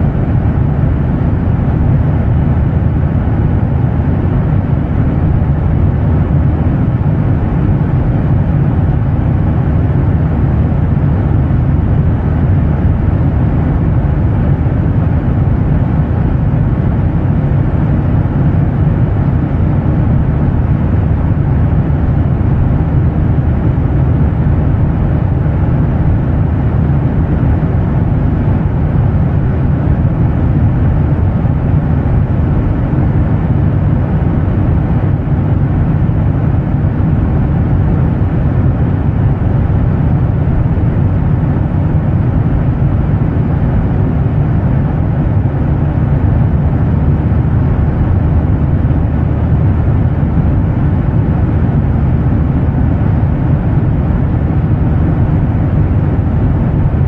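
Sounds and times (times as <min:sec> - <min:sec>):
jet engine drone: 0:00.0 - 0:57.0.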